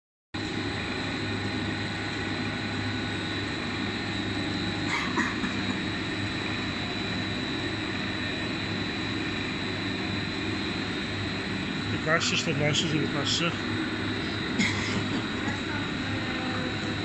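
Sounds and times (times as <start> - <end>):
dryer machine drone and whine: 0.4 - 17.0.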